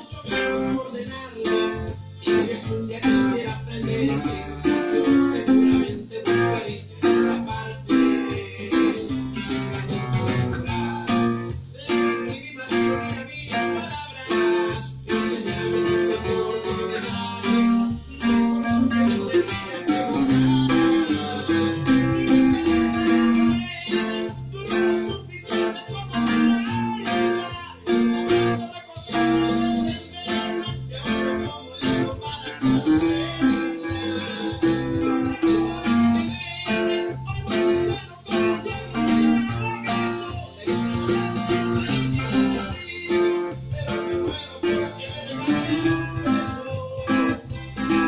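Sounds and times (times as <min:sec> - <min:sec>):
picked string instrument: 0:00.0 - 0:48.0.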